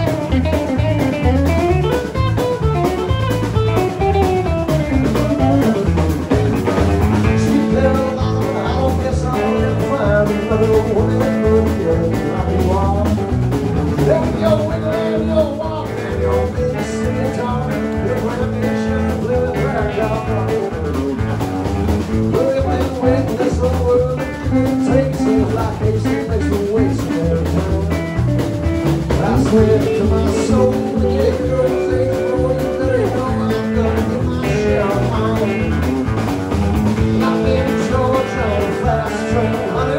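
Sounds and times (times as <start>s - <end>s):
blues-rock band playing: 0.0s - 39.9s.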